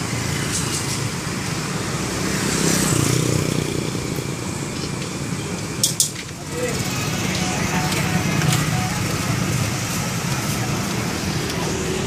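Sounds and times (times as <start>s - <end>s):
vehicle engine and tyre noise: 0.0s - 12.0s.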